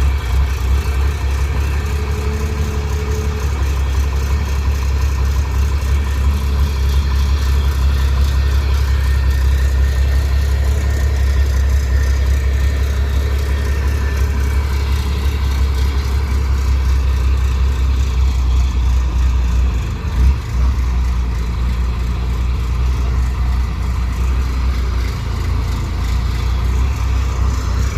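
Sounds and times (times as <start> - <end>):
heavy vehicle engine droning: 0.0 - 27.9.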